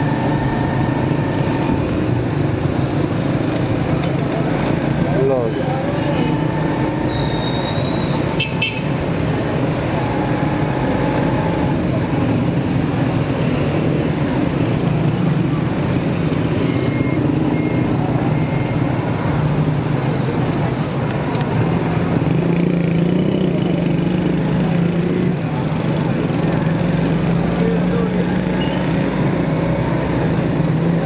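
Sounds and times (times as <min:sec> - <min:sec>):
road and traffic noise: 0:00.0 - 0:31.0.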